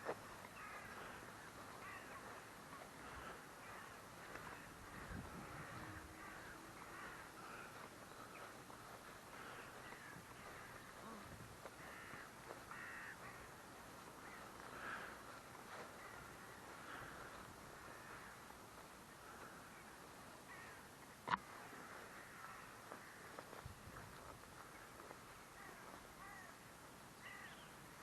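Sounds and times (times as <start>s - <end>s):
birds calling: 0.0s - 26.6s, 27.2s - 28.0s.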